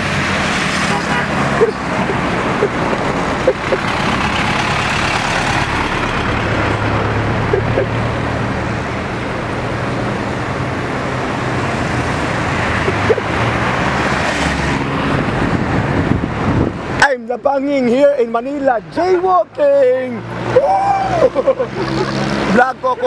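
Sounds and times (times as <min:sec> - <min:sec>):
city road traffic: 0:00.0 - 0:23.0.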